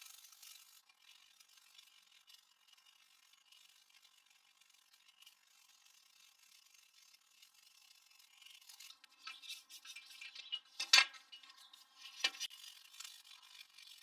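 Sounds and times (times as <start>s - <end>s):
brush scrubbing computer parts: 1.6s - 14.0s.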